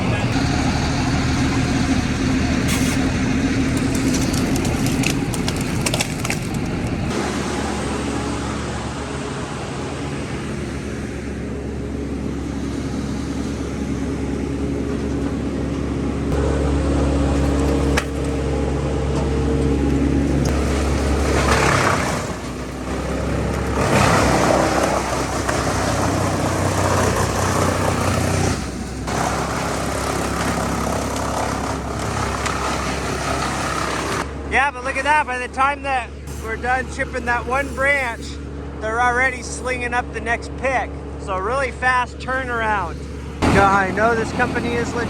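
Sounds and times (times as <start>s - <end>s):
wood being shredded: 0.0s - 8.8s, 16.3s - 40.4s, 41.2s - 45.0s
wood chipper engine under load: 0.0s - 45.0s.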